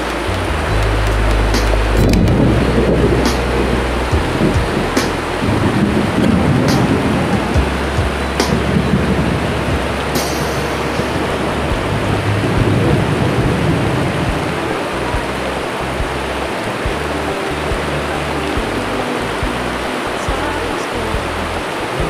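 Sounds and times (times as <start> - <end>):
heavy rain on pond: 0.0 - 22.0
low rumble: 0.0 - 22.0.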